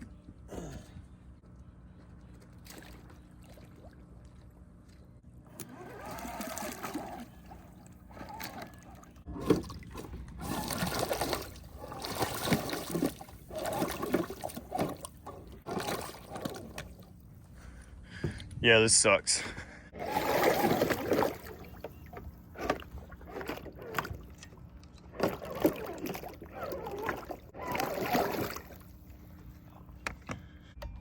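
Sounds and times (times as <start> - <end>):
wheels churning and splashing water: 2.2 - 17.4, 20.0 - 30.3.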